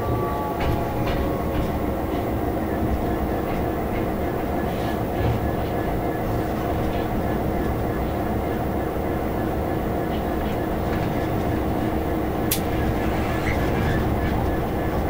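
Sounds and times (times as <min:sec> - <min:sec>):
locomotive engine running: 0:00.0 - 0:15.0
wheels rumbling on rails: 0:00.0 - 0:15.0.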